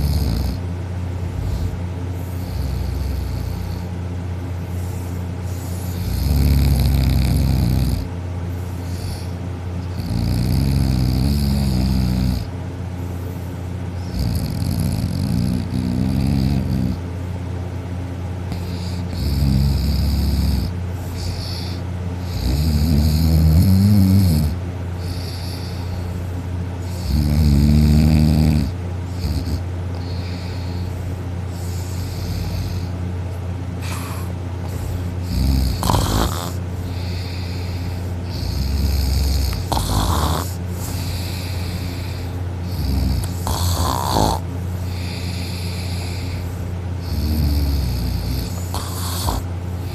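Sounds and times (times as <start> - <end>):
person snoring loudly: 0.0 - 0.6, 1.4 - 3.9, 5.5 - 8.1, 8.9 - 12.5, 14.0 - 17.0, 18.5 - 25.9, 26.8 - 30.9, 33.8 - 49.9
steady low hum: 0.0 - 49.9.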